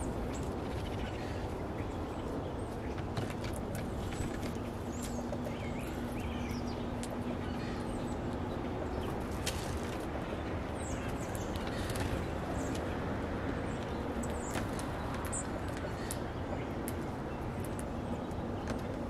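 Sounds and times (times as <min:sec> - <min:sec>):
birds pecking on wooden feeder: 0:00.0 - 0:19.0
small birds chirping: 0:00.0 - 0:19.0.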